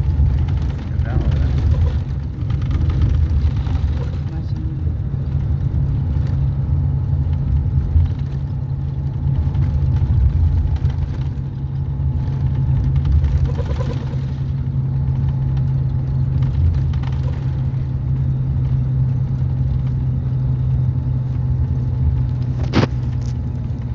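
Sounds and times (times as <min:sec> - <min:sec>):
car driving rumble: 0:00.0 - 0:23.9.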